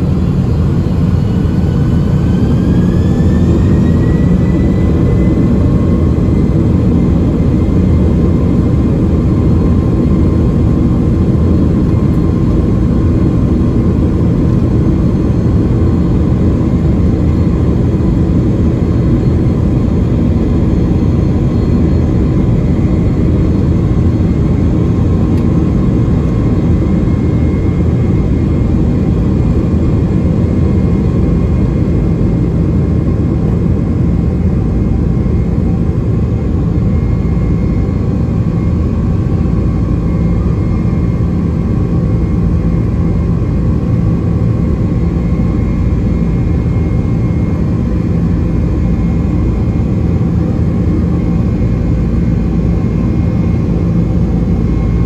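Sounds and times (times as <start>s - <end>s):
faint high engine whine: 0.0s - 55.0s
jet engines roaring: 0.0s - 55.0s.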